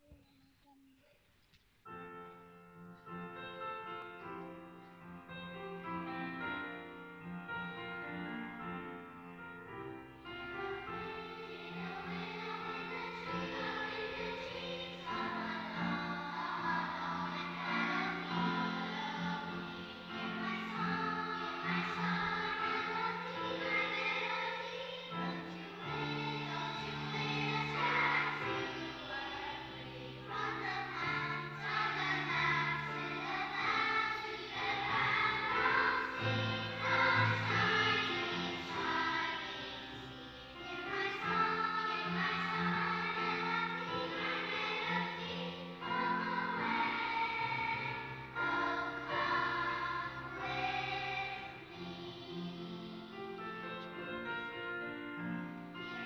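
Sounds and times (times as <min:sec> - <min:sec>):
children's choir singing: 0:10.2 - 0:56.0.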